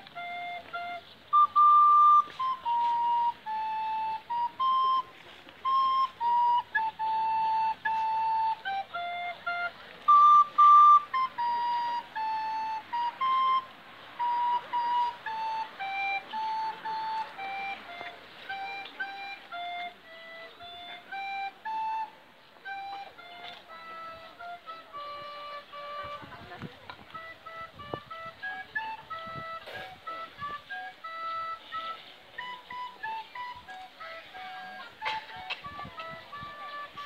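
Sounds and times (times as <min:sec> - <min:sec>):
recorder playing slow tune: 0:00.0 - 0:37.0.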